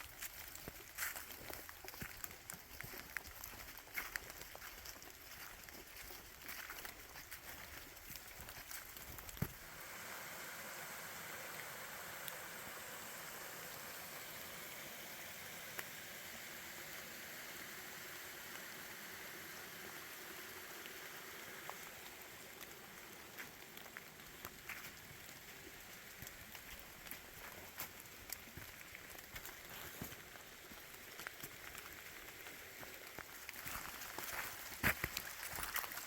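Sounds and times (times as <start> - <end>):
rain falling: 6.5 - 36.0.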